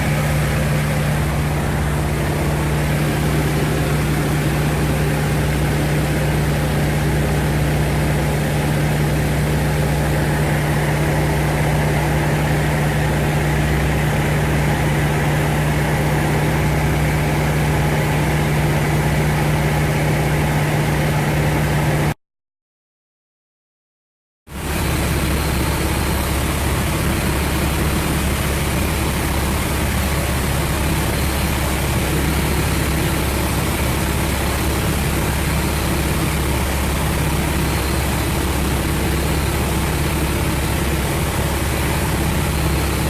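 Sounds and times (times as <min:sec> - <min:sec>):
propeller plane engine droning: 0:00.0 - 0:22.2, 0:24.5 - 0:43.0.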